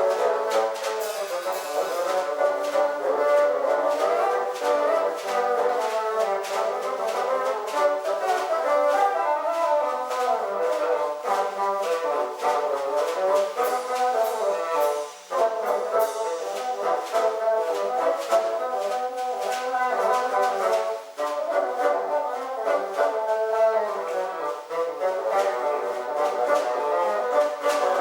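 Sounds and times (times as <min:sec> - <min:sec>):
bassoon ensemble playing: 0:00.0 - 0:28.0.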